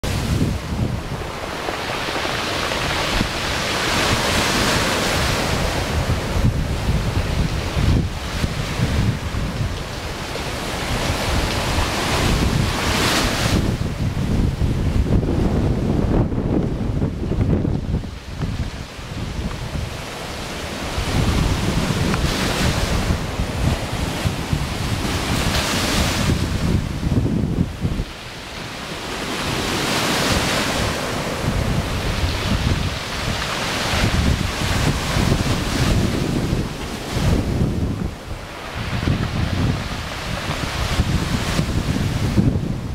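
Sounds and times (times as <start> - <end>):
waves breaking on shore: 0.0 - 42.9
wind buffeting microphone: 0.0 - 42.9.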